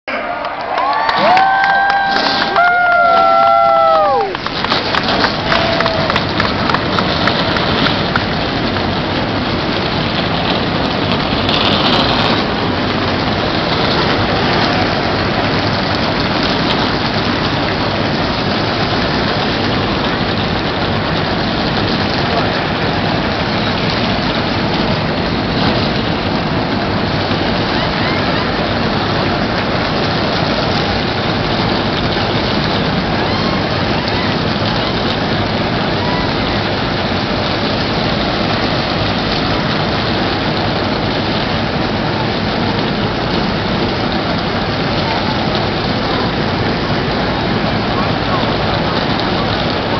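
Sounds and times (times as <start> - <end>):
race car engines running: 0.6 - 49.9.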